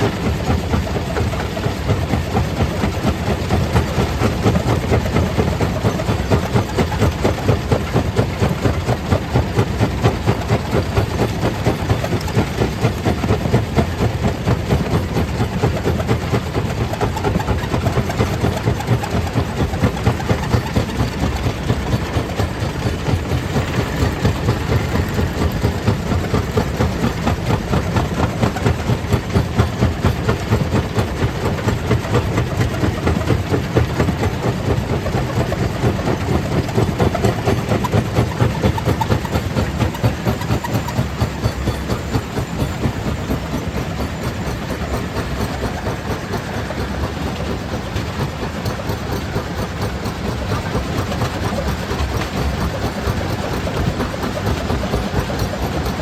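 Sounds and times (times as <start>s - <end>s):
stone crusher machinery pulsing: 0.0s - 56.0s.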